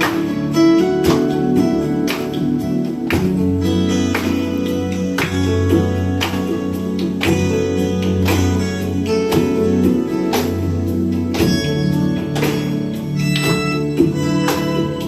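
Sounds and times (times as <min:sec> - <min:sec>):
guitar music: 0:00.0 - 0:15.0
held bass line: 0:00.0 - 0:15.0.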